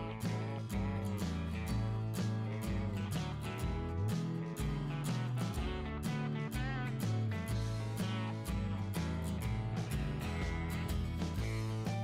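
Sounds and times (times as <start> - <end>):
strummed guitar tune with beat: 0.0 - 12.0.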